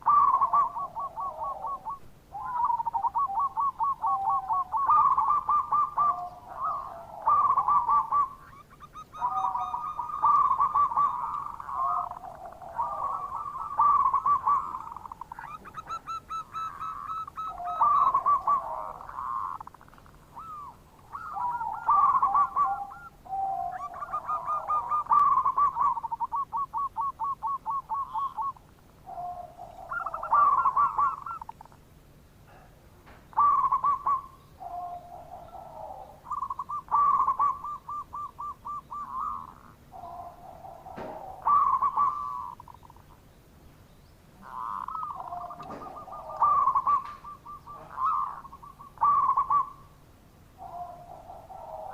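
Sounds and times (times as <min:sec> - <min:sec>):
dove cooing: 0:00.0 - 0:43.3, 0:44.3 - 0:51.9.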